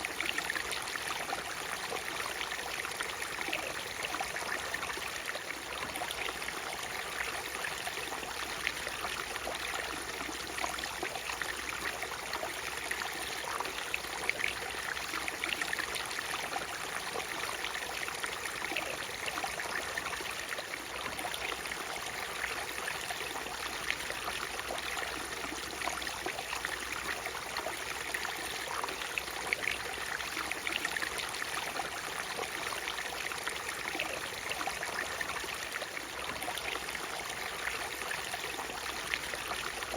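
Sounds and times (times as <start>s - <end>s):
water splashes and trickles: 0.0s - 39.9s.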